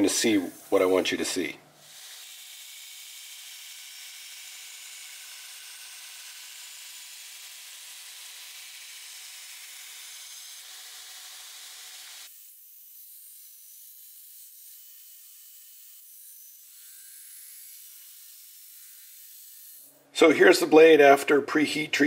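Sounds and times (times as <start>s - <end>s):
belt grinder grinding steel: 1.8s - 20.0s.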